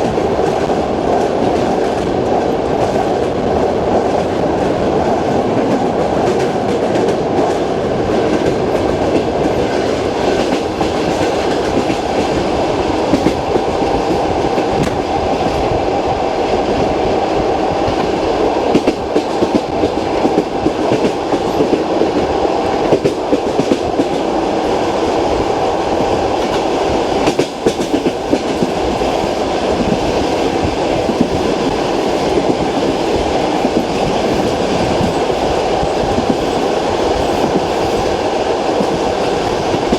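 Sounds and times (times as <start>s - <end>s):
train rumble: 0.0s - 39.9s
train wheels clickety-clack: 0.0s - 39.9s.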